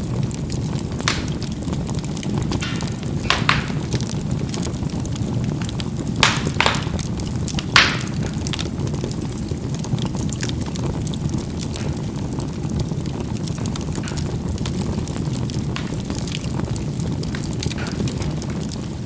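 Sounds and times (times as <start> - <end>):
charcoal fire rumbling: 0.0 - 19.0
coals crackling and popping: 0.0 - 19.0.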